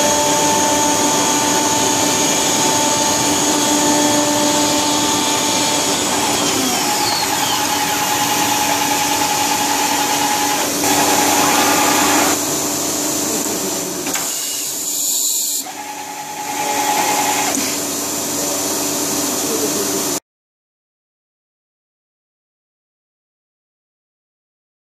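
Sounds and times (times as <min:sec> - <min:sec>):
motor-driven machine whining: 0:00.0 - 0:20.0.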